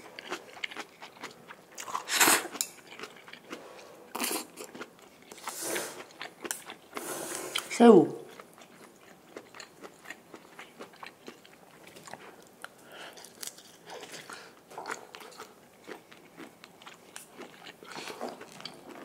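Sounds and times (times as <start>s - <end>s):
person chewing food: 0.0s - 7.7s, 8.3s - 19.0s.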